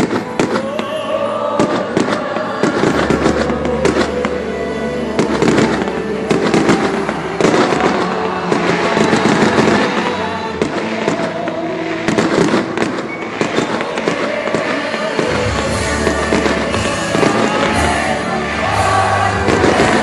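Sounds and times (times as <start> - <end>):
fireworks crackling and banging: 0.0 - 20.0
music playing: 0.0 - 20.0.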